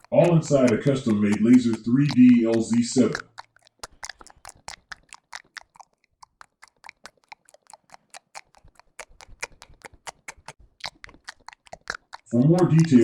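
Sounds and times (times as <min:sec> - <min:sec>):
rapid faint clicking: 0:00.0 - 0:13.0.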